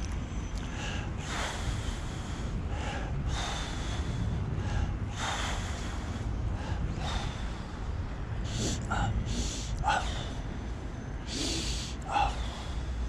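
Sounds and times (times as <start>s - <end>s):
electric wheelchair rumble: 0.0s - 13.0s
person breathing loudly: 0.6s - 13.0s.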